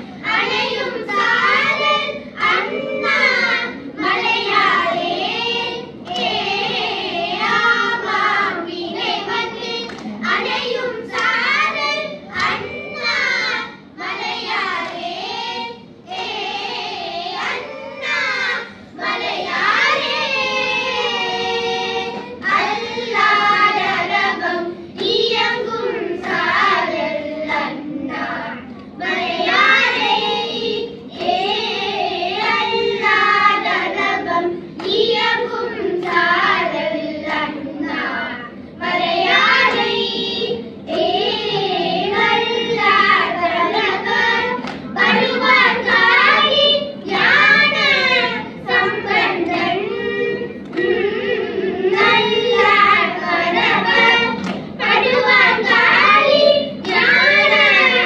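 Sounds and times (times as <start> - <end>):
children singing hymns: 0.0 - 58.0.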